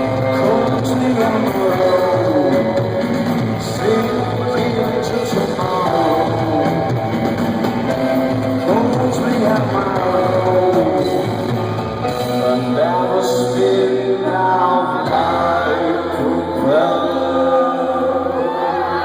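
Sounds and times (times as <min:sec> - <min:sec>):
live rock band playing: 0:00.0 - 0:19.0
man singing lead vocal: 0:00.0 - 0:19.0.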